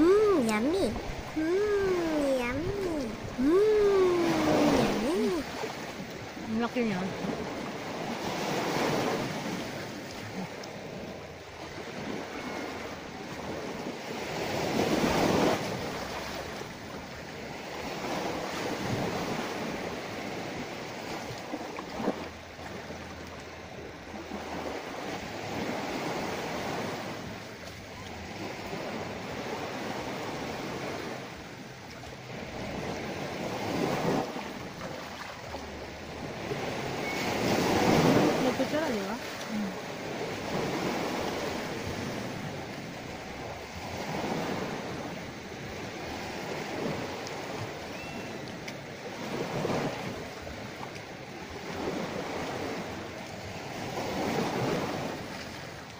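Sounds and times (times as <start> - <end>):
sea waves washing in: 0.0 - 55.9.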